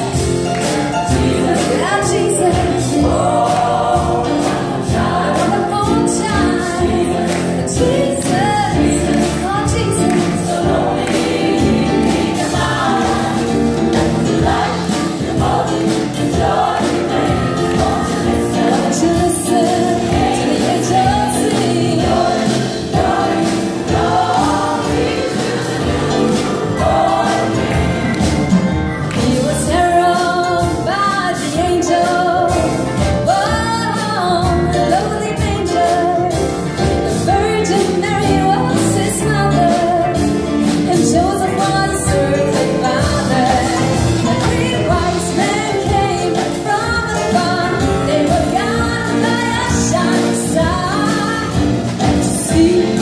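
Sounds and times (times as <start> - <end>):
band playing steady beat: 0.0 - 53.0
gospel choir singing: 0.0 - 53.0.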